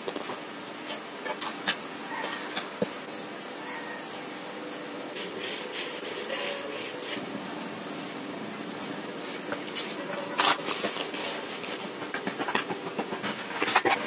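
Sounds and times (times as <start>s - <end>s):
steady background drone: 0.0s - 14.0s.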